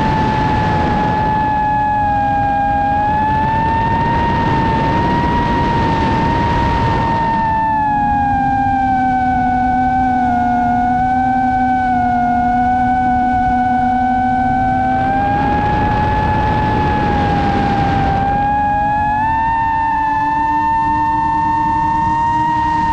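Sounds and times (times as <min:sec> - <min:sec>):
drone propellers whining: 0:00.0 - 0:22.9
wind on microphone: 0:00.0 - 0:22.9.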